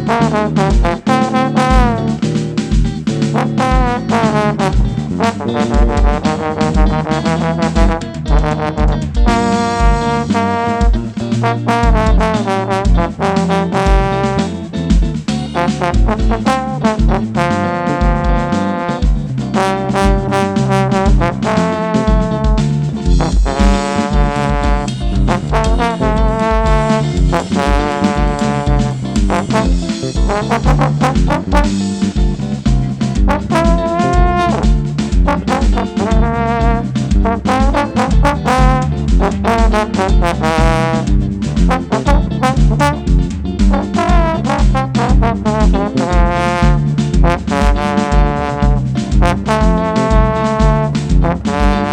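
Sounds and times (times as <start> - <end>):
trombone melody: 0.0 - 32.4, 33.0 - 51.9
bass: 0.0 - 51.9
kick drum beat: 0.0 - 51.9.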